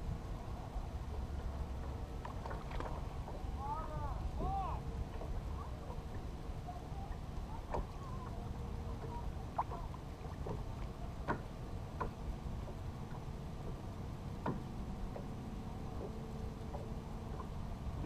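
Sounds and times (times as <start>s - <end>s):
rumble of wind and water: 0.0s - 18.0s.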